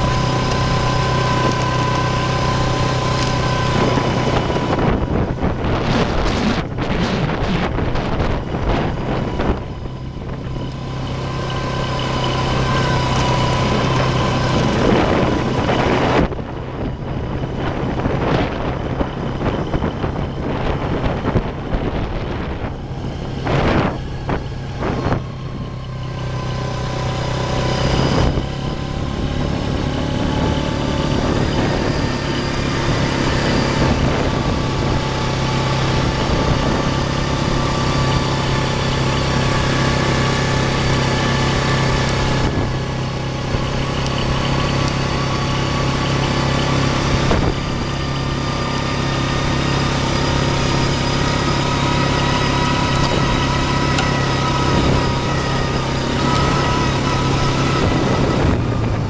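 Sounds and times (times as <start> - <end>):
atv engine running: 0.0 - 59.0
wind buffeting microphone: 0.0 - 59.0.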